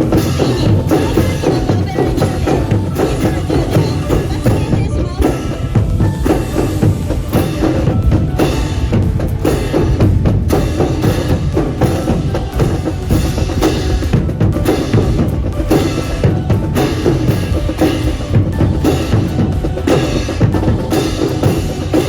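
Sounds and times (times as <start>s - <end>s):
brass band playing: 0.0s - 22.0s
snare and bass drums: 0.0s - 22.0s.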